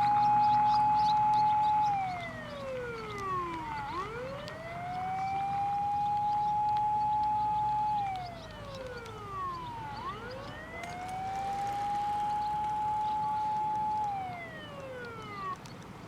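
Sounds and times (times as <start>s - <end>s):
fainter second siren: 0.0s - 16.0s
fire engine siren wailing: 0.0s - 16.0s.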